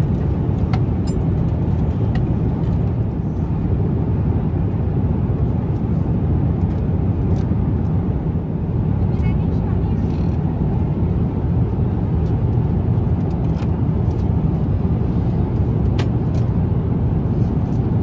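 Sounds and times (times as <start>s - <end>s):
airliner cabin noise: 0.0s - 18.0s.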